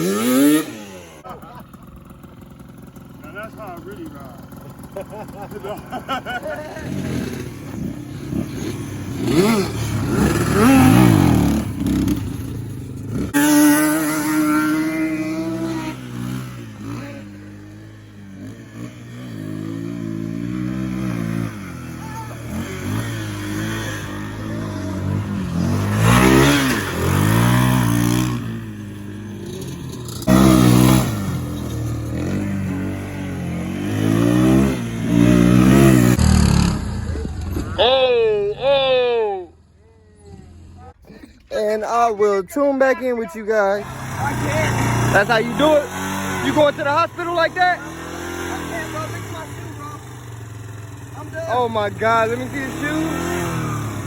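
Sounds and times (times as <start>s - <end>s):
small engines revving: 0.0s - 37.9s, 43.7s - 54.0s.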